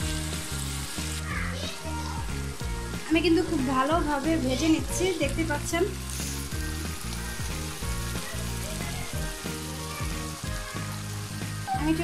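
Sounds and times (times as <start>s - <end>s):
background music with low notes: 0.0s - 12.0s
fish sizzling in oil: 0.0s - 12.0s.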